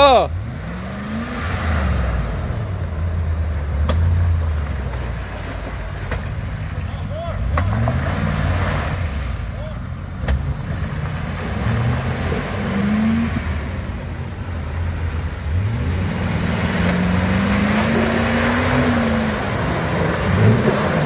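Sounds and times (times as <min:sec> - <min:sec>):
engine revving under load: 0:00.0 - 0:06.2, 0:07.3 - 0:21.0
tyres churning through mud: 0:00.0 - 0:21.0.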